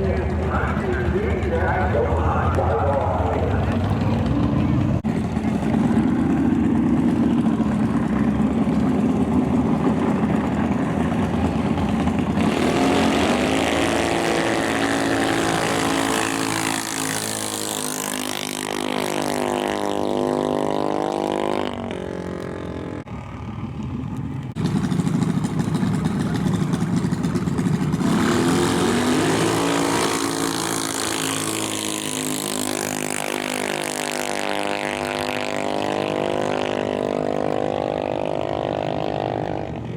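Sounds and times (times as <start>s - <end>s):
dragster engine running hard: 0.0s - 39.9s.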